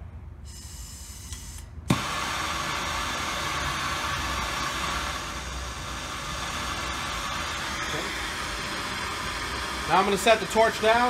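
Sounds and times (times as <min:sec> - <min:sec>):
gas hissing: 0:00.4 - 0:11.0
torch flame roaring: 0:01.9 - 0:11.0.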